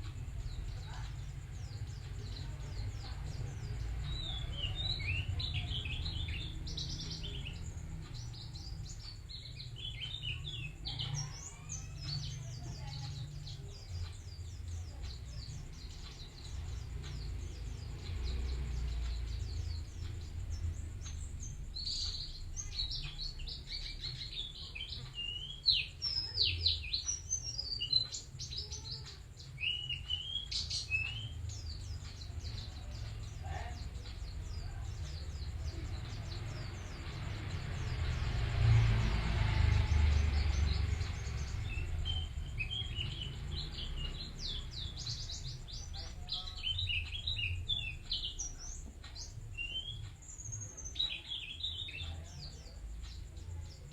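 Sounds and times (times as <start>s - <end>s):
bird twittering song: 0.0s - 53.9s
steady low rumble: 0.0s - 53.9s.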